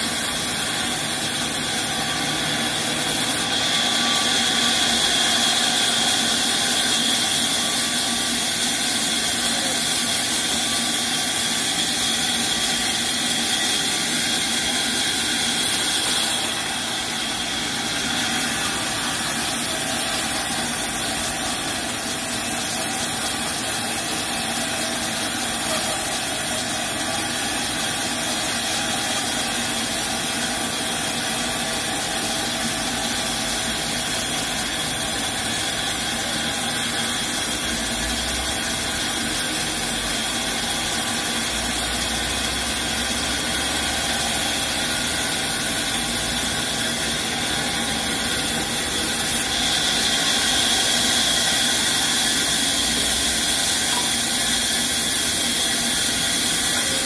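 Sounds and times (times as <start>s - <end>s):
band saw cutting wood: 0.0s - 57.0s
saw drive hum: 0.0s - 57.0s.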